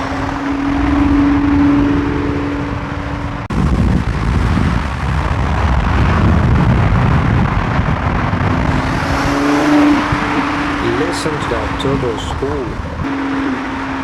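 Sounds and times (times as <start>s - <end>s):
car engine and road noise: 0.0s - 14.0s
wind rushing over microphone: 0.0s - 14.0s.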